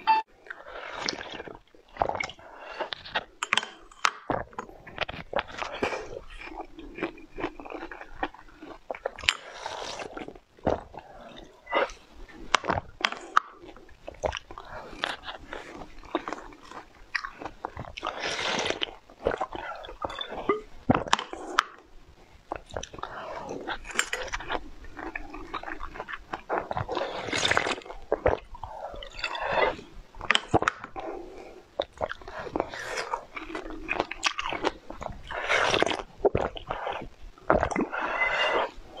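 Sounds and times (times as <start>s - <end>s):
slurping: 0.0s - 21.8s, 22.5s - 39.0s
mouth clicks and chewing: 0.0s - 39.0s.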